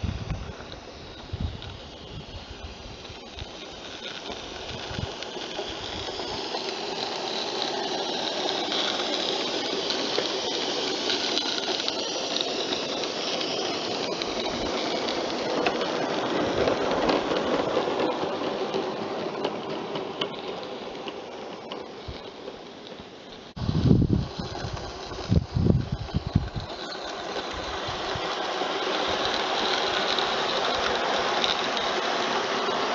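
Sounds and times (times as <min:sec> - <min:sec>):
steam exhaust hissing: 0:00.0 - 0:32.9
train clicking on track: 0:00.0 - 0:32.9.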